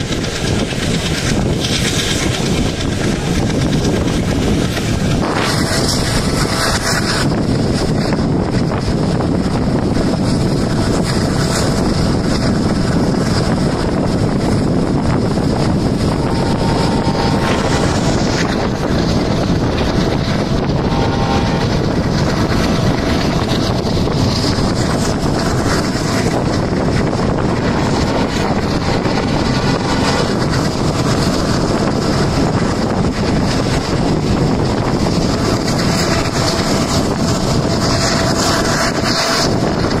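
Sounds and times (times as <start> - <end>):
train running noise: 0.0 - 40.0
wind rushing across microphone: 0.0 - 40.0.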